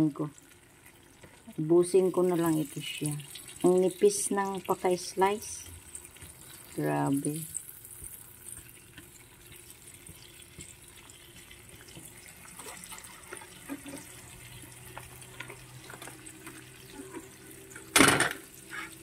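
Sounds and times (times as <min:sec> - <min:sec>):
ham sizzling in a pan: 0:00.0 - 0:19.0.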